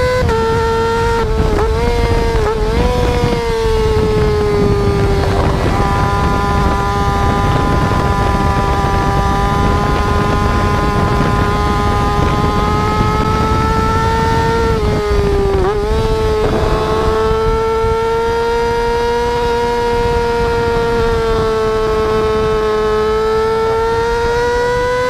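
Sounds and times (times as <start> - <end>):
motorcycle engine whining: 0.0 - 25.0.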